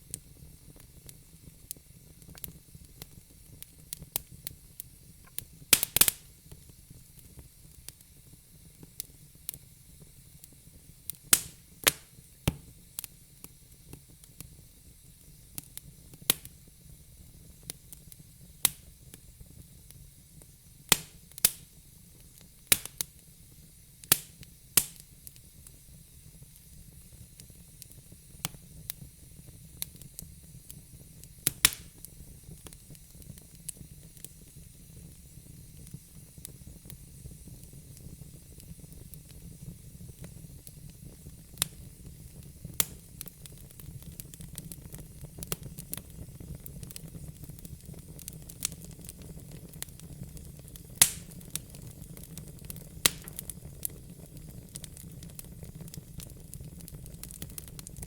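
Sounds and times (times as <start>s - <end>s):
faint steady hiss: 0.0s - 58.0s
fire crackling and popping: 0.0s - 58.0s.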